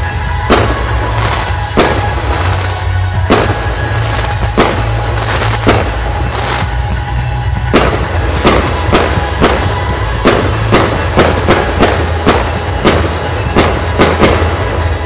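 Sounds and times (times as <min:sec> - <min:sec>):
firework shells bursting: 0:00.0 - 0:15.0
music playing: 0:00.0 - 0:15.0.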